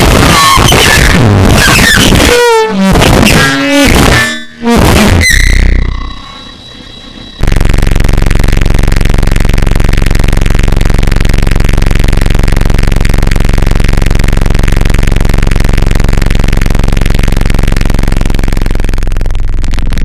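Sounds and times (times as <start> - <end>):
distorted noise music drone: 0.0 - 20.0.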